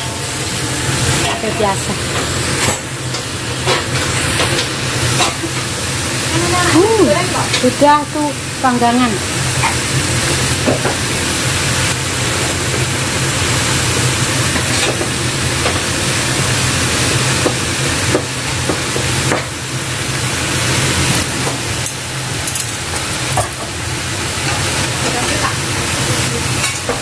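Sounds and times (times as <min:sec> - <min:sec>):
vegetables sizzling in a wok: 0:00.0 - 0:27.0.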